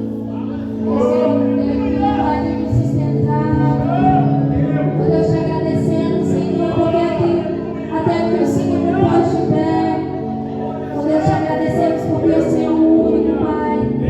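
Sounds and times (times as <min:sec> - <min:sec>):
voices singing: 0:00.0 - 0:14.0.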